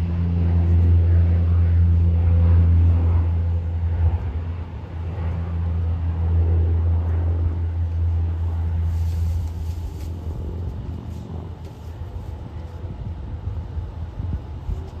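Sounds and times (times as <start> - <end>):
turboprop plane engine droning: 0.0 - 15.0.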